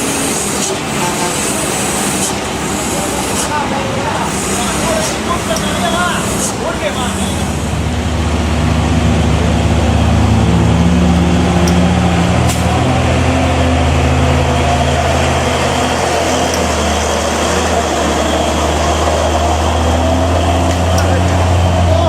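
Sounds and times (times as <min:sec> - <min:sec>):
truck engine humming: 0:00.0 - 0:22.0.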